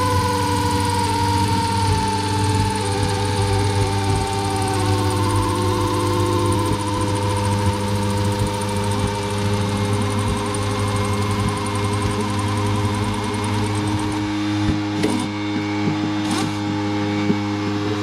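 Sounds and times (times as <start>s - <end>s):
mechanical hum: 0.0s - 18.0s
rhythmic whir: 0.0s - 18.0s.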